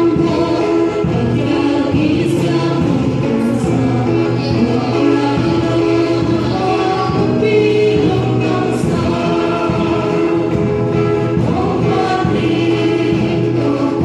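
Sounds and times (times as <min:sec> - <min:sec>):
acoustic guitar: 0:00.0 - 0:14.0
women singing gospel: 0:00.0 - 0:14.0.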